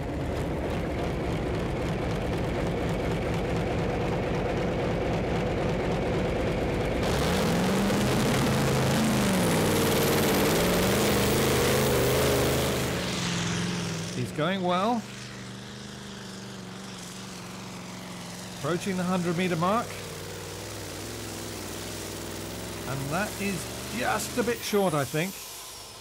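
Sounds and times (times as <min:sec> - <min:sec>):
tractor engine pulsing: 0:00.0 - 0:25.6.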